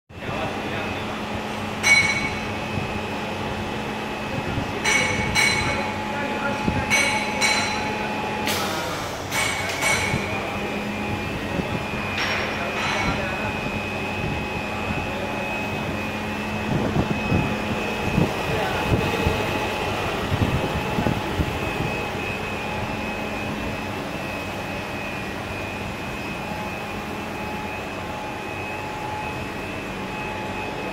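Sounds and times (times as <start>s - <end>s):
machine rumbling with low hum: 0.1s - 30.9s.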